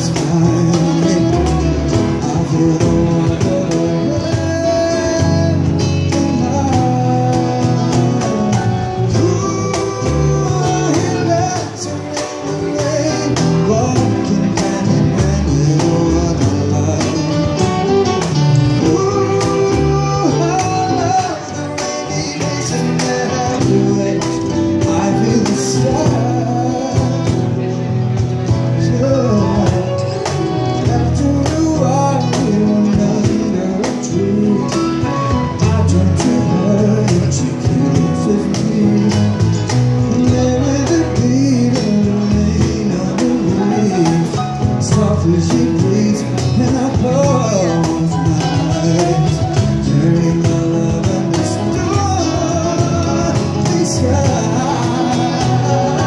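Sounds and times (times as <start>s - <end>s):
live band playing pop ballad: 0.0s - 56.0s
man singing: 0.0s - 56.0s.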